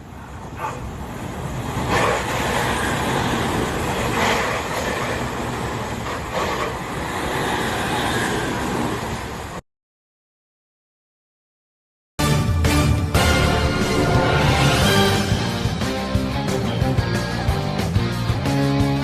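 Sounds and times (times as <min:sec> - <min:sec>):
train passing rumble: 0:00.0 - 0:09.6, 0:12.7 - 0:18.5.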